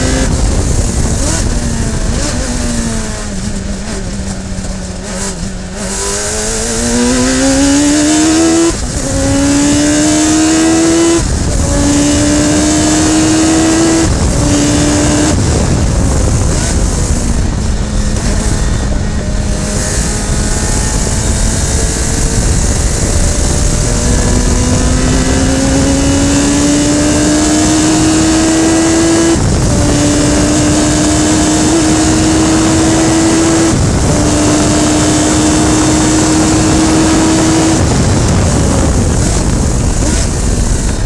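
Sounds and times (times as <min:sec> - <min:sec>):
race car engine accelerating: 0:00.0 - 0:41.0
wind and road noise: 0:00.0 - 0:41.0.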